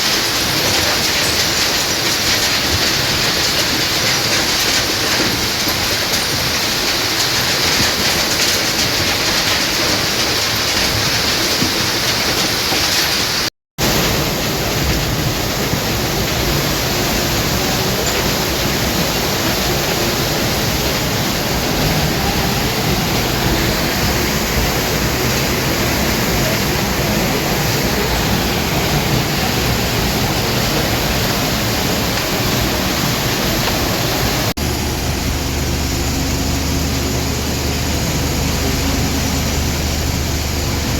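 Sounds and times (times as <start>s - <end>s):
machinery rushing noise: 0.0s - 40.9s.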